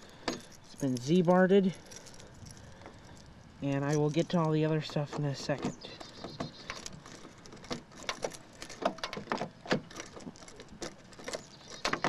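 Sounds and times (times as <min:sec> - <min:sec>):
sharp clicks and knocks: 0:00.0 - 0:12.0.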